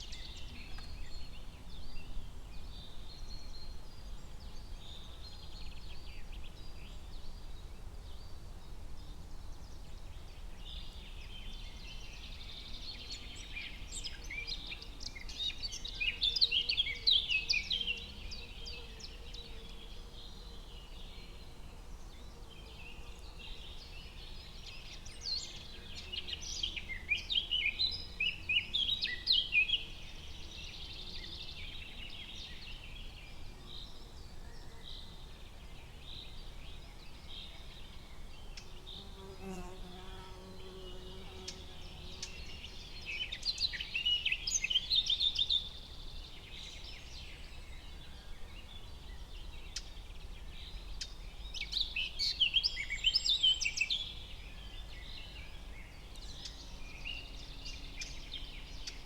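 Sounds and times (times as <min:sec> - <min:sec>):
songbirds chirping and singing: 0:10.6 - 0:59.0.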